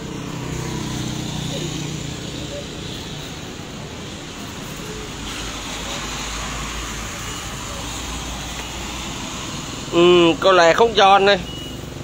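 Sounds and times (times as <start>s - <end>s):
vehicle passing on wet road: 0.0s - 12.0s
rain hiss: 0.2s - 12.0s.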